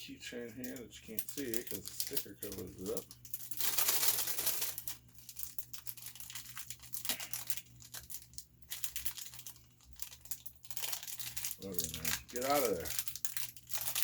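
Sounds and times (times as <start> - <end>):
crinkly packaging rustling and ripping: 0.6 - 14.0.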